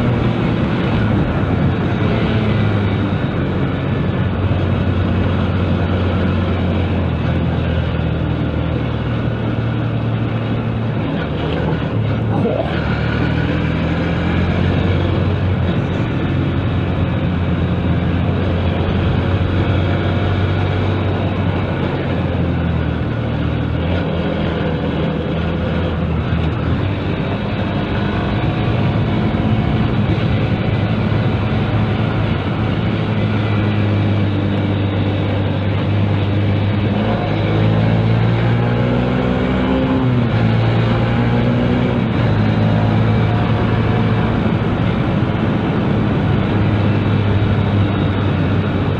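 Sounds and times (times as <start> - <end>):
motorcycle engine running: 0.0 - 48.9
rush of wind noise: 0.0 - 48.9.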